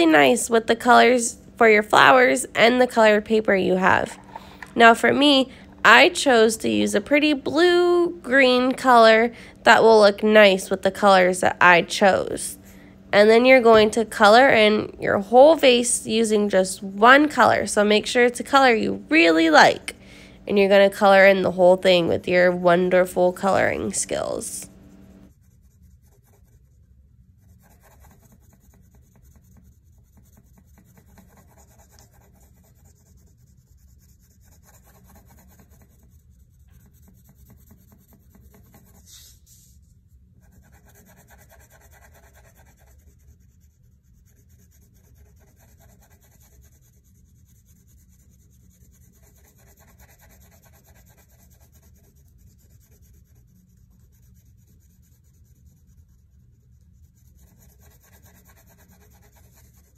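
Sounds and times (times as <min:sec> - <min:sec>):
crayon scribbling on paper: 0:00.0 - 0:39.8, 0:40.4 - 0:59.9.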